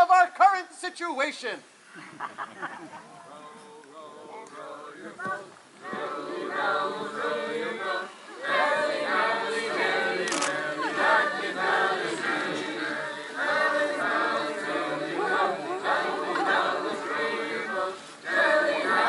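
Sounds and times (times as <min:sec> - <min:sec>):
group singing unaccompanied: 0:03.4 - 0:19.0.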